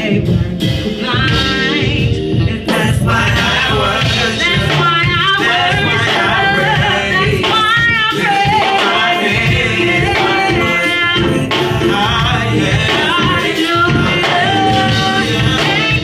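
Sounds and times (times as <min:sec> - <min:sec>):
band accompaniment: 0:00.0 - 0:16.0.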